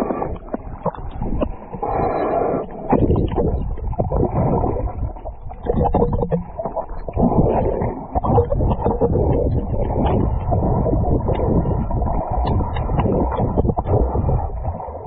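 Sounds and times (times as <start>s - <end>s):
muffled water sloshing and splashing: 0.0s - 15.0s.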